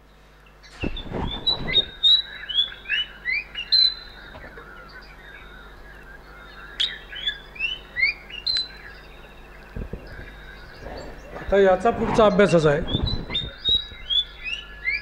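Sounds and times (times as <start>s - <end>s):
bird song of whistled notes: 0.0s - 15.0s.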